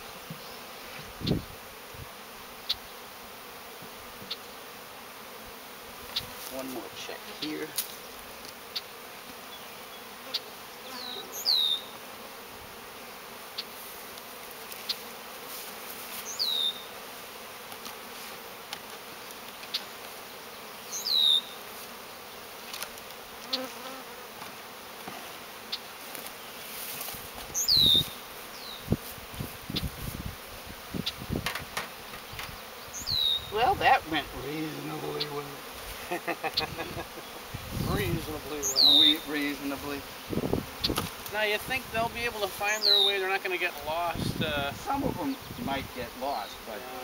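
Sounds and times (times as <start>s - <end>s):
honeybees buzzing: 0.0s - 47.0s.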